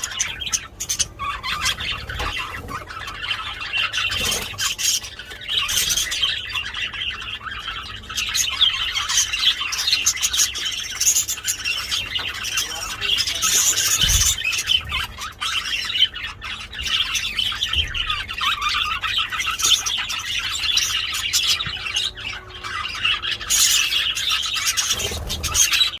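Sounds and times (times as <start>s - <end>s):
budgerigars chattering and warbling: 0.0s - 26.0s.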